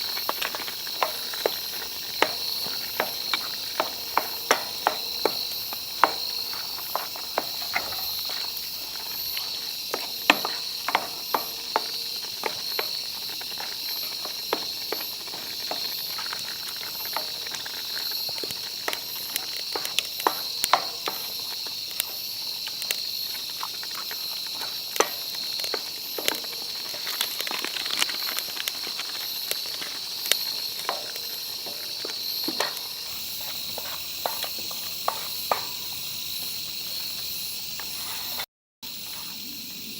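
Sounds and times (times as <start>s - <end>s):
campfire crackling and popping: 0.0s - 37.9s
insects chirping: 0.0s - 39.9s.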